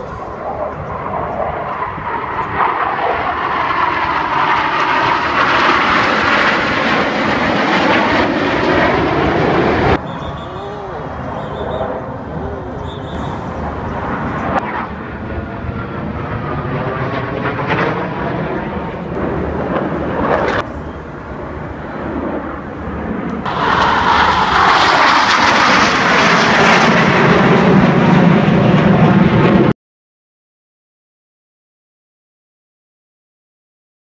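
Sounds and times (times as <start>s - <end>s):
jet aircraft flying overhead: 0.0s - 29.8s.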